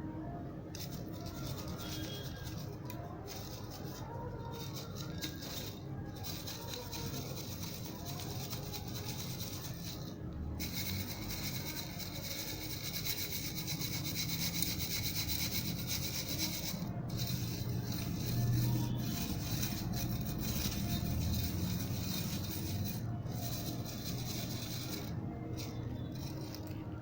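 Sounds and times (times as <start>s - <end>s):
mesh scrubber crunchy scratching: 0.8s - 27.0s.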